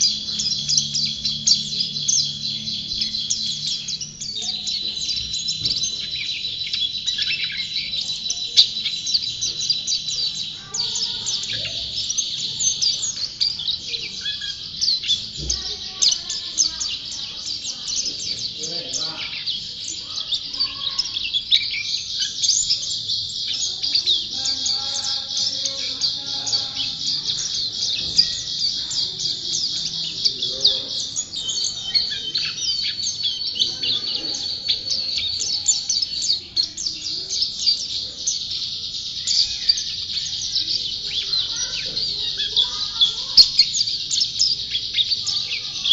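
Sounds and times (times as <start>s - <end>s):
bird singing high chirps and trills: 0.0s - 45.9s.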